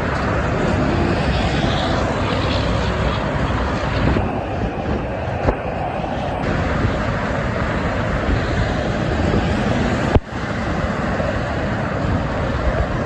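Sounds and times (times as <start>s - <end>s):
traffic roar: 0.0s - 13.0s
wind on microphone: 0.0s - 13.0s.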